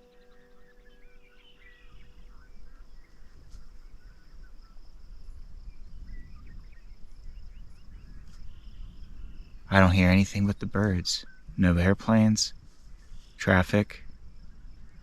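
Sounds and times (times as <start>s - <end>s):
birds chirping and singing: 0.0s - 15.0s
insect trill: 0.0s - 15.0s.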